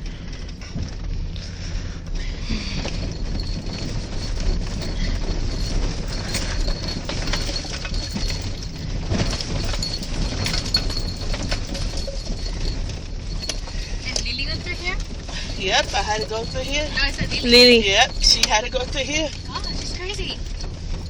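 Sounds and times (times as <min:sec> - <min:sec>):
car knocks and rattles: 0:00.0 - 0:21.0
car tyre and engine rumble: 0:00.0 - 0:21.0.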